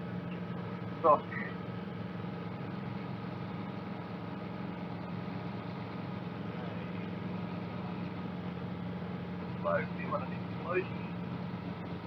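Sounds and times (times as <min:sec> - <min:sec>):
helicopter engine and rotors droning: 0:00.0 - 0:12.0.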